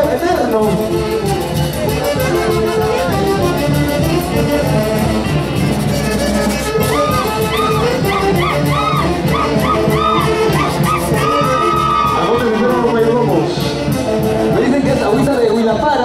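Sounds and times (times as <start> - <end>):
festival orchestra dance music: 0.0 - 16.0.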